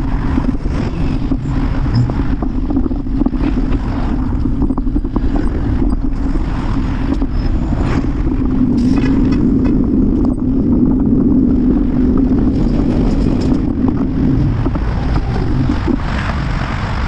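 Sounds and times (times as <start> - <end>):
bicycle road noise: 0.0 - 17.0
wind buffeting microphone: 0.0 - 17.0.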